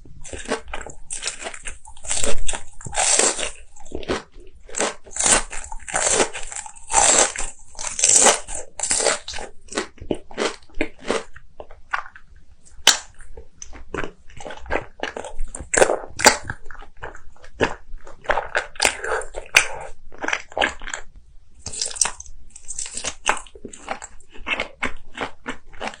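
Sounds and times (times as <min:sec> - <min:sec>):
crunchy bites and chewing: 0:00.1 - 0:26.0.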